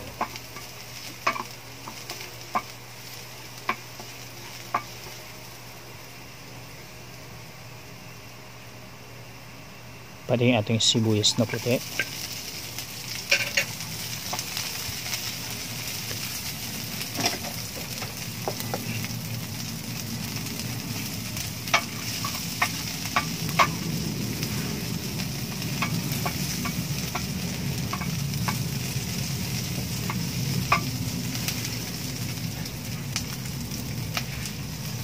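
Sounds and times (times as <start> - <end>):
food sizzling in hot oil: 0.0 - 8.6, 10.8 - 35.0.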